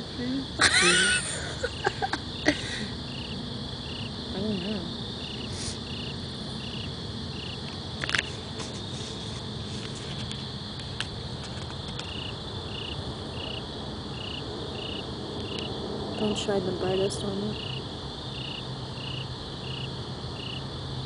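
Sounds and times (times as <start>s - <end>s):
insect chirping: 0.0s - 21.0s
insect trill: 0.0s - 21.0s.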